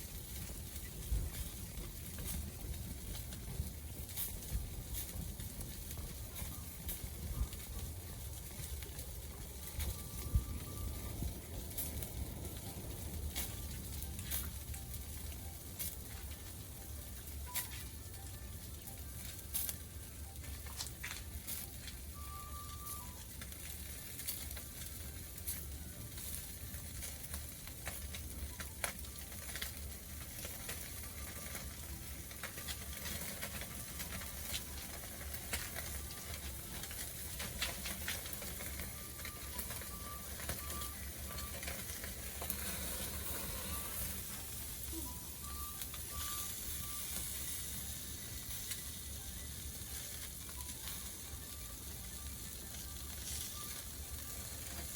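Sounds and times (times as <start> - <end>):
fish sizzling on a grill: 0.0 - 54.9
wood fire crackling: 0.0 - 54.9.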